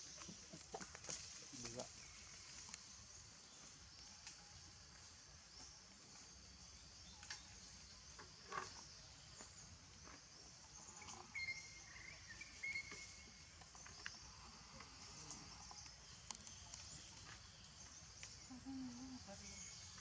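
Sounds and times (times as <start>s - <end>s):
high insect hum: 0.0s - 20.0s.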